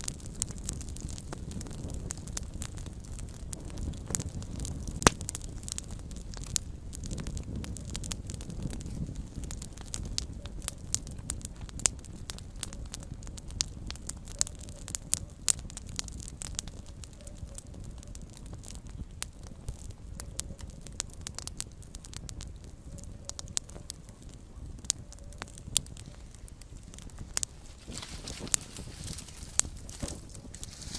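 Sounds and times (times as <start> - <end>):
campfire crackling and popping: 0.0 - 30.9.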